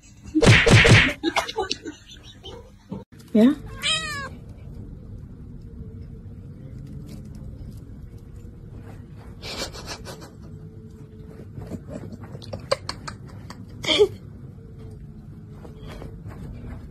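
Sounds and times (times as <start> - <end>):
faint hum: 0.0 - 16.9
low background rumble: 1.2 - 16.9.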